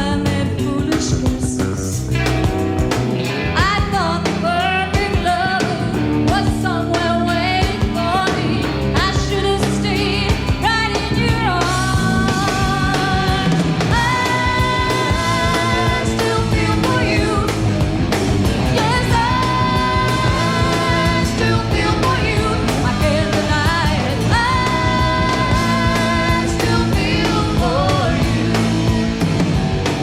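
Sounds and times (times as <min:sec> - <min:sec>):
person singing lead vocal: 0:00.0 - 0:02.1, 0:03.4 - 0:17.7, 0:18.6 - 0:28.6
live pop-rock band: 0:00.0 - 0:30.0.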